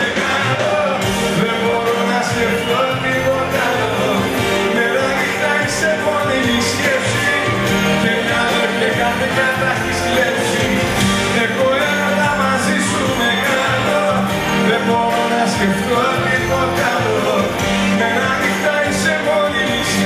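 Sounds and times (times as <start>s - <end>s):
live band playing amplified: 0.0s - 20.0s.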